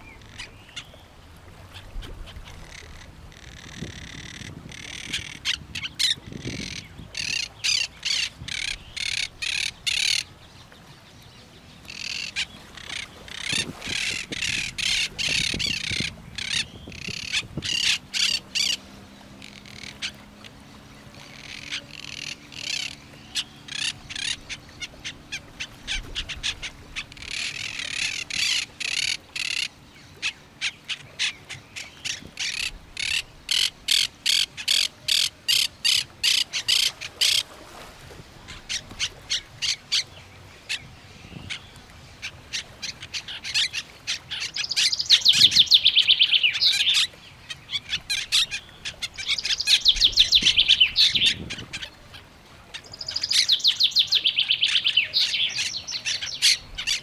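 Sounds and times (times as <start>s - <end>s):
birds calling repeated notes: 0.0s - 57.0s.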